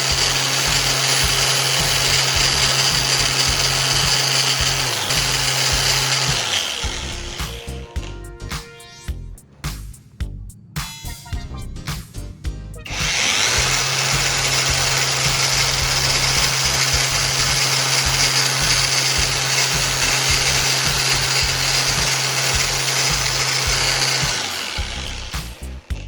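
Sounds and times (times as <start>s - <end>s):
angle grinder grinding: 0.0s - 8.2s, 12.9s - 26.0s.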